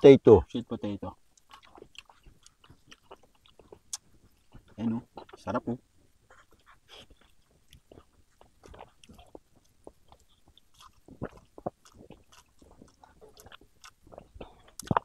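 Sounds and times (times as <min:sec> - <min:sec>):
person chewing food: 0:01.3 - 0:15.0.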